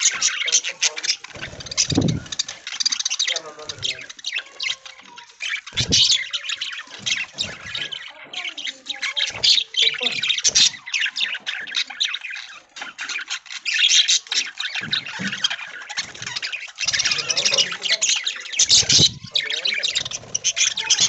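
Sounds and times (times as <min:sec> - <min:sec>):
budgies chattering and squawking: 0:00.0 - 0:21.0.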